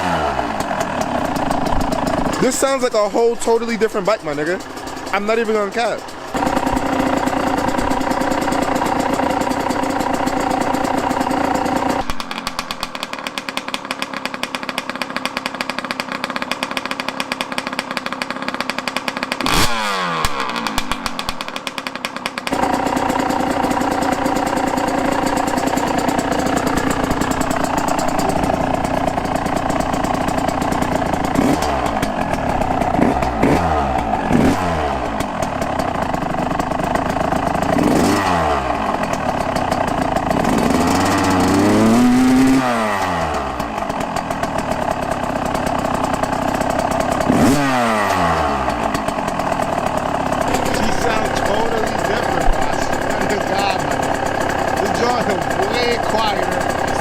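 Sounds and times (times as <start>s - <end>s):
dirt bike engine idling and revving: 0.0s - 57.0s.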